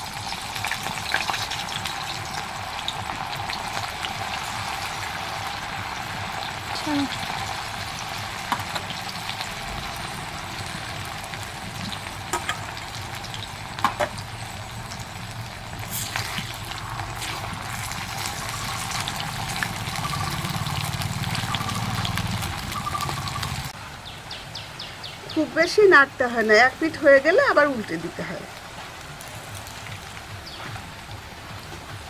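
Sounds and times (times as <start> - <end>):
food sizzling in hot oil: 0.0 - 23.8, 25.6 - 30.7.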